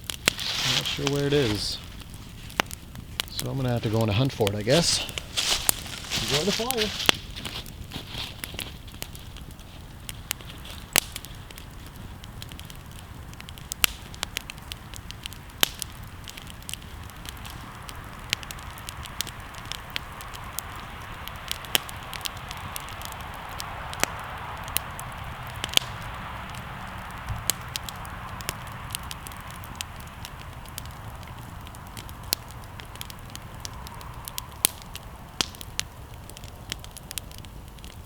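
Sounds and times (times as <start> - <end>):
campfire crackling: 0.0 - 38.0.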